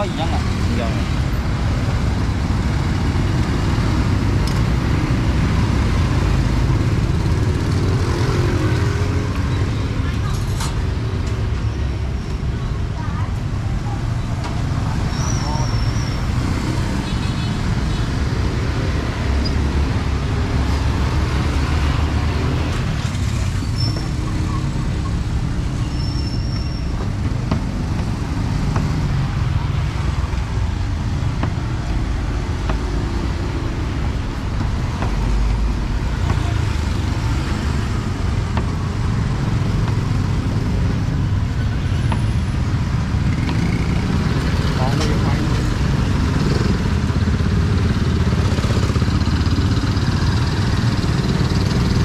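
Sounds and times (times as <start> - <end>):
street traffic: 0.0 - 52.0.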